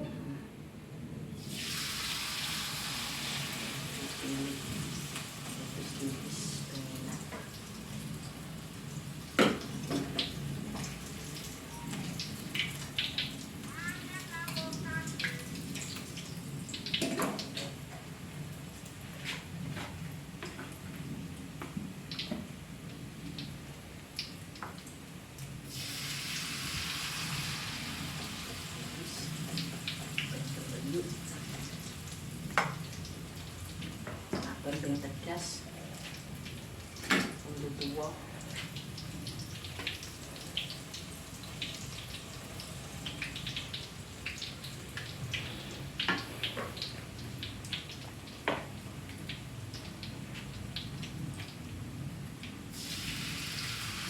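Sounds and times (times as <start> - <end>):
hot oil sizzling: 1.4 - 54.0.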